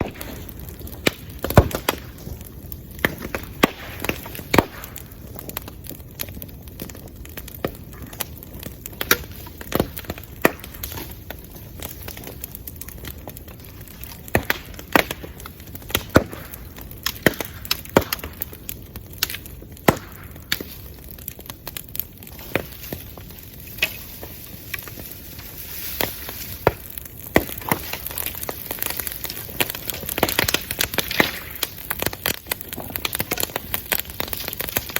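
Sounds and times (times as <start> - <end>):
bonfire crackling and popping: 0.0 - 34.9.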